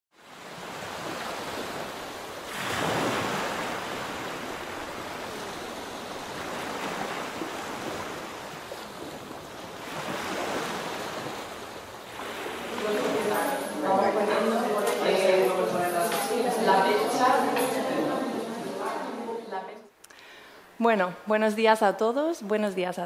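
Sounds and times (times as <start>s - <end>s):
waves washing onto beach: 0.2s - 19.4s.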